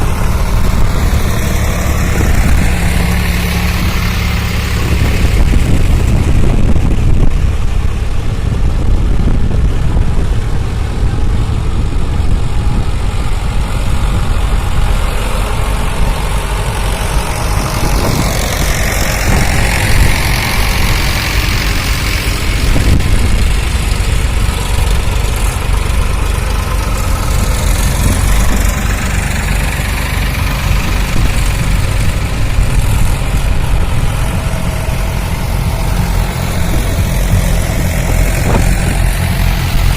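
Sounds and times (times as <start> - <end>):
tractor engines rumbling: 0.0 - 39.9.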